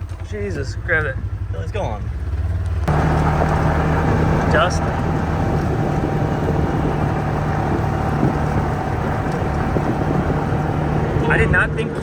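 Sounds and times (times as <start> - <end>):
vehicle engine humming: 2.1 - 12.0.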